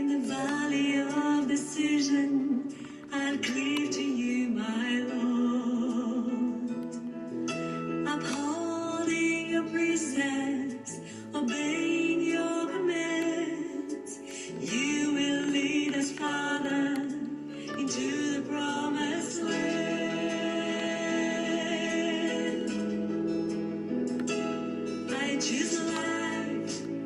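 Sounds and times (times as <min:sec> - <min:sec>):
instrumental accompaniment: 0:00.0 - 0:27.0
person singing: 0:00.0 - 0:27.0.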